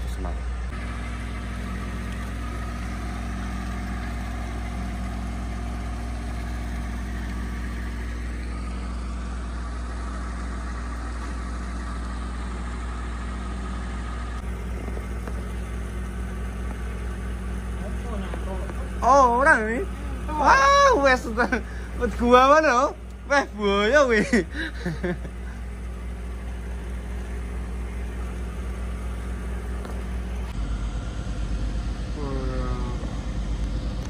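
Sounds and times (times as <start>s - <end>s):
boat engine idling: 0.0s - 34.0s.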